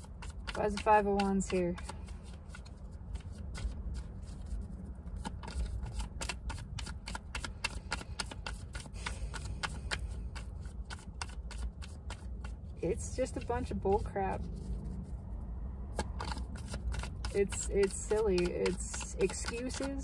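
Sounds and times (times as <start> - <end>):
cards being shuffled: 0.0 - 15.1, 15.9 - 20.0.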